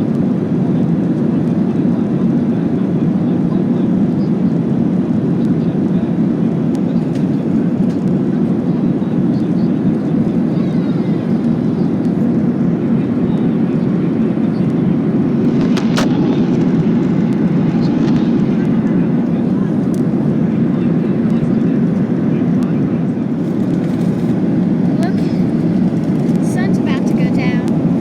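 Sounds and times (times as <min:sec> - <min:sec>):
airplane cabin engine roar: 0:00.0 - 0:28.0.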